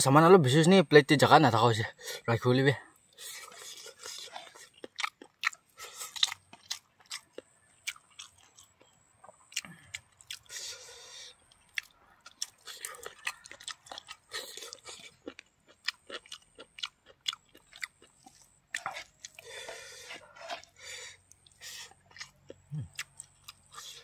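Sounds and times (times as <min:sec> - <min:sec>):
person chewing food: 0:03.0 - 0:24.0.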